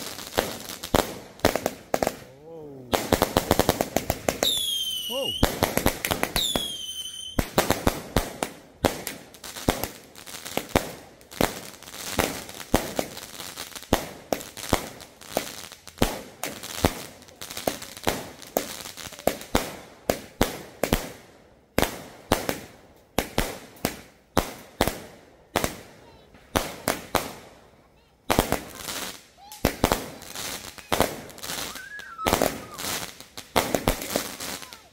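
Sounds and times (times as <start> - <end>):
firework cake sharp bangs: 0.0 - 13.2, 17.6 - 34.9.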